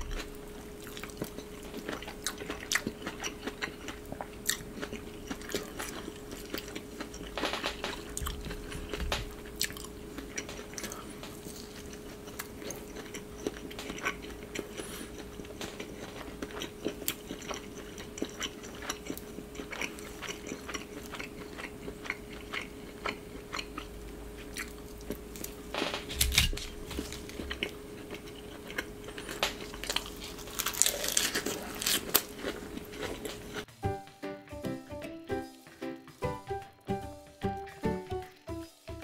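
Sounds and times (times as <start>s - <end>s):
chewing lettuce crunches: 0.0s - 33.7s
faint steady hum: 0.0s - 33.7s.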